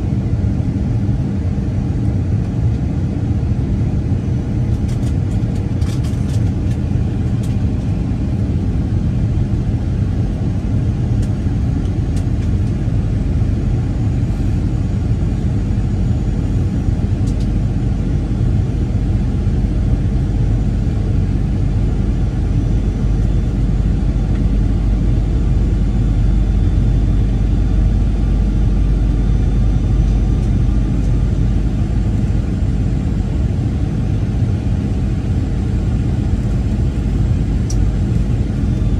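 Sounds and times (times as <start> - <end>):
jet airliner cabin rumble: 0.0 - 38.9.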